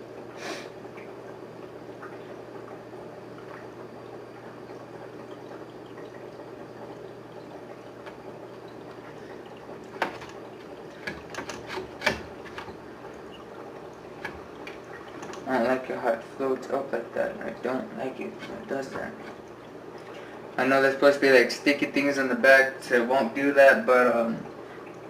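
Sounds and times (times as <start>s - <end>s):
water bubbling into an aquarium: 0.0s - 25.0s.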